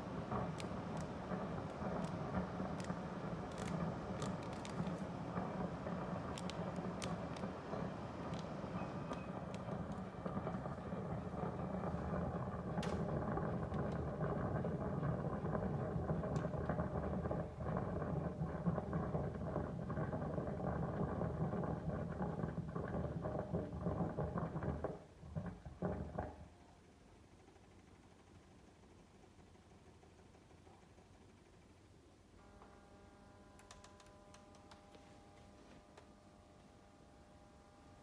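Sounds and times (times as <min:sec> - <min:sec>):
air conditioner gurgling: 0:00.0 - 0:38.0.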